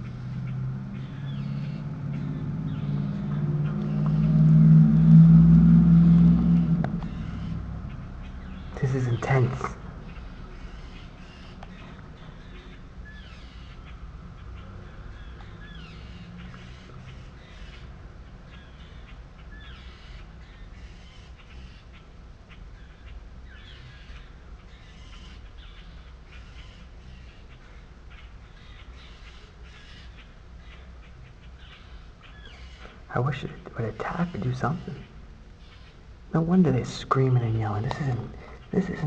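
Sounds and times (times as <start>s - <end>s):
birds giving harsh alarm calls: 0.0s - 4.4s, 5.9s - 39.0s
low background rumble: 0.0s - 39.0s.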